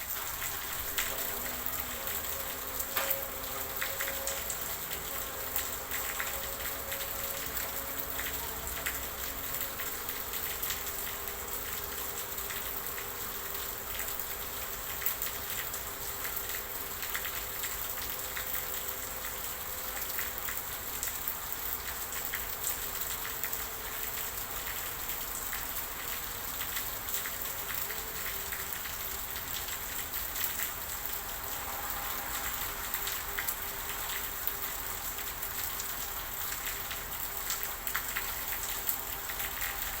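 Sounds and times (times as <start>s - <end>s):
rain drops ticking on surface: 0.0s - 40.0s
steady rain hiss: 0.0s - 40.0s.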